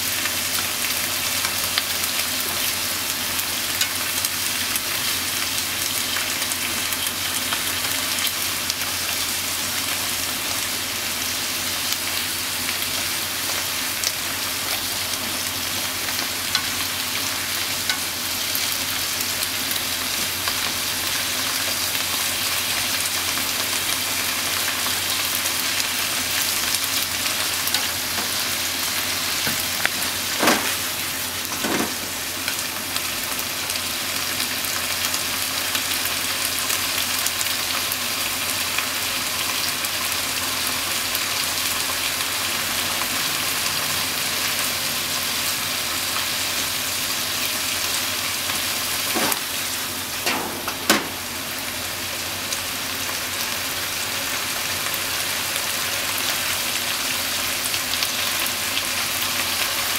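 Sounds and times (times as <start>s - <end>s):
meat and onion sizzling in a pan: 0.0s - 59.9s.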